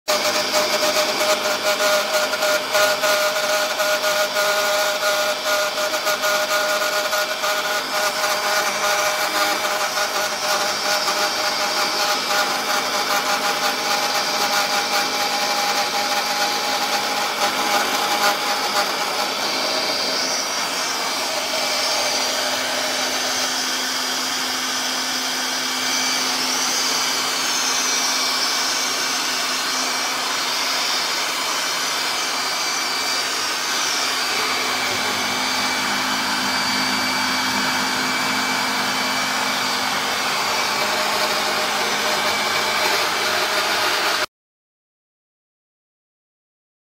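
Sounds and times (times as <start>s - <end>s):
end mill cutting metal: 0.1s - 44.3s
milling spindle whine: 0.1s - 44.3s.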